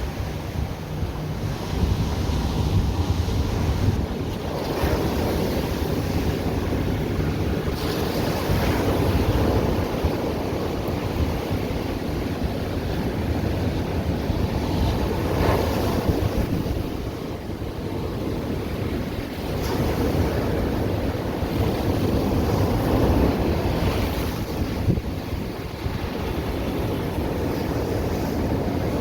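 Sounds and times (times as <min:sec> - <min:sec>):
ocean surf breaking: 0:00.0 - 0:29.0
wind rumble on microphone: 0:00.0 - 0:29.0.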